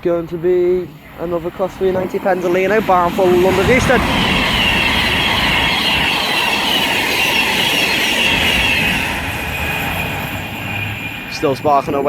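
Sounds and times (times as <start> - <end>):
high electric whine: 0.0 - 12.0
train wheels on rails rushing: 0.0 - 12.0.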